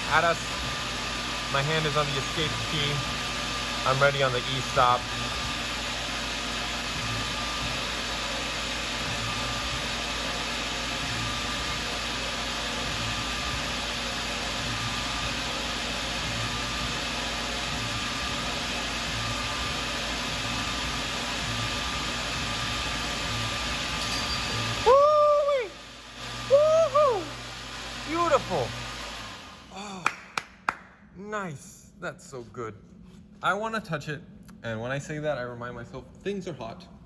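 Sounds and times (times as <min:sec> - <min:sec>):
milling machine spindle whirring: 0:00.0 - 0:29.7.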